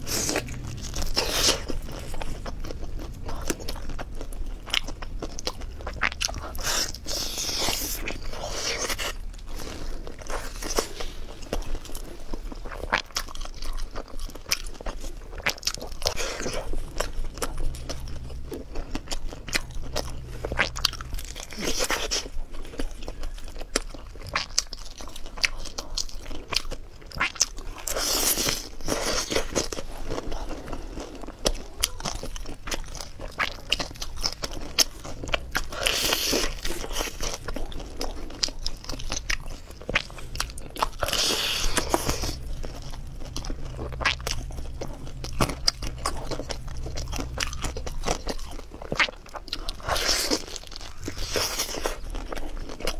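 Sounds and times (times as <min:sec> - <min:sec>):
crisp bites and wet chewing: 0:00.0 - 0:52.9.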